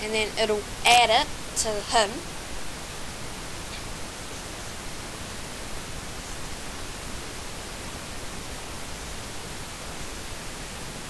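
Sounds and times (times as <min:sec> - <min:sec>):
recording hiss: 0:00.0 - 0:11.0.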